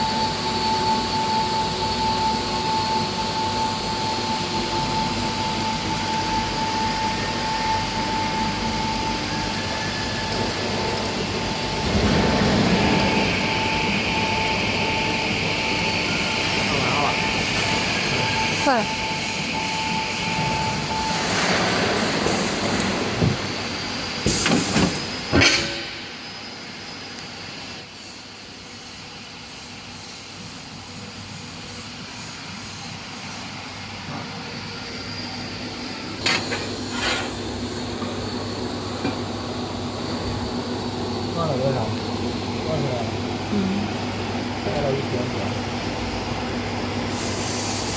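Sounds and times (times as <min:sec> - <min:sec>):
high whine: 0:00.0 - 0:47.9
welding arc hiss: 0:00.1 - 0:38.9, 0:47.0 - 0:47.9.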